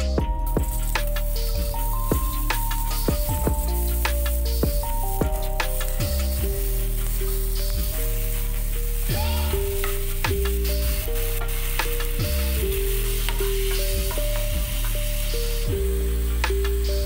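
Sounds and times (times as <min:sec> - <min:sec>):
background music: 0:00.0 - 0:17.0
onions sizzling in hot oil: 0:00.0 - 0:17.0.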